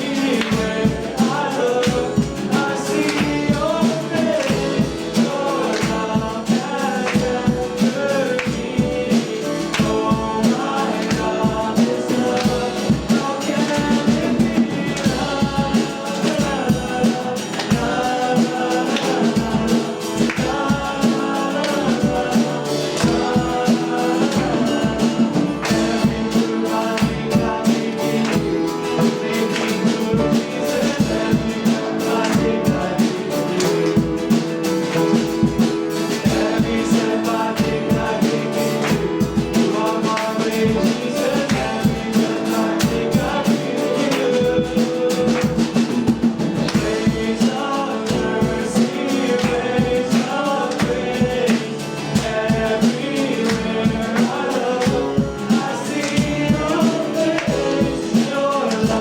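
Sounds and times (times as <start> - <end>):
people singing: 0.0 - 59.0
steady drum beat: 0.0 - 59.0
worship band playing: 0.0 - 59.0.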